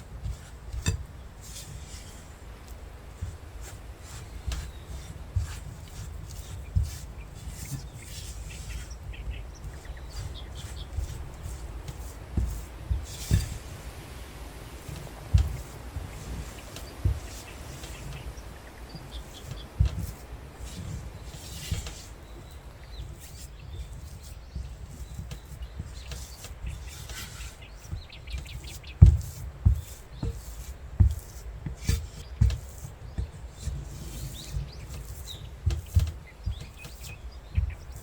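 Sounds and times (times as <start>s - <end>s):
soft rubbing and scraping: 0.0s - 38.0s
dull knocks: 3.0s - 38.0s.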